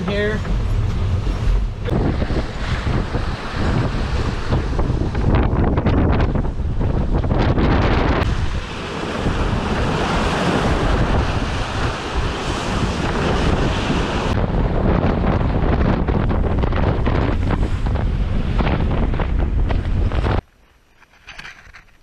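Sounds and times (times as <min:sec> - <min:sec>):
wind buffeting the microphone: 0:00.0 - 0:20.4
breaking waves along a hull: 0:00.0 - 0:22.0.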